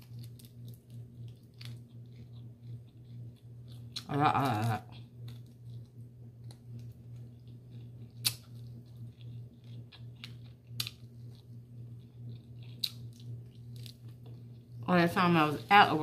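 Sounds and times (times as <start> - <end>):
soft chewing: 0.0 - 15.8
steady low hum: 0.0 - 16.0.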